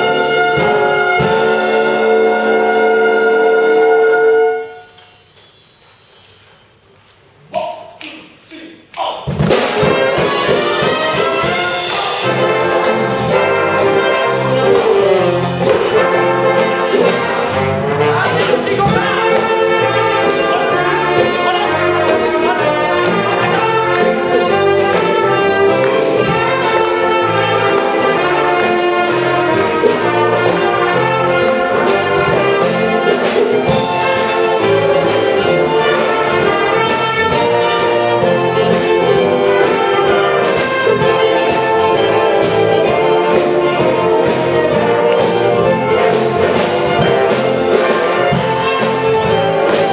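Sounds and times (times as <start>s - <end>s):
wind band playing: 0.0s - 5.2s, 9.5s - 49.9s.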